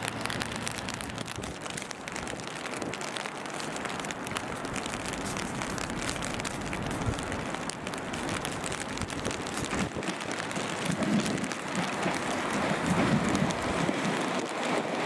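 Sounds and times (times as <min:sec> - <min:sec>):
steady rain: 0:00.0 - 0:15.0
wind: 0:00.0 - 0:15.0.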